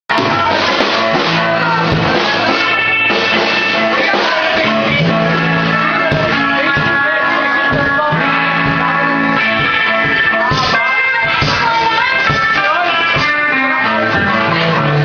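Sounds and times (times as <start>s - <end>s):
rock band playing live: 0.1s - 15.0s.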